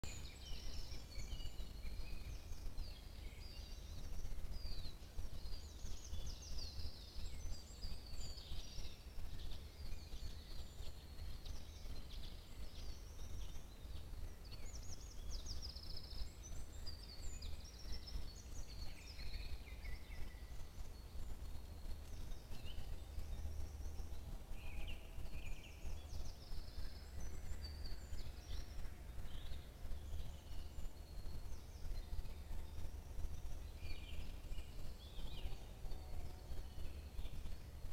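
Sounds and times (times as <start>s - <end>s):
songbirds singing: 0.0s - 37.9s
steady low rumble: 0.0s - 37.9s.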